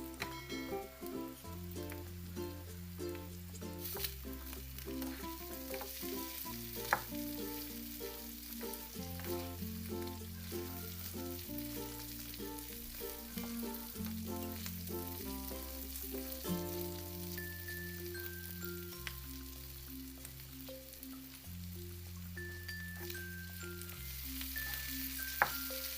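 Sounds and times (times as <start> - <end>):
food sizzling in a pan: 0.0 - 25.9
light background music: 0.0 - 25.9.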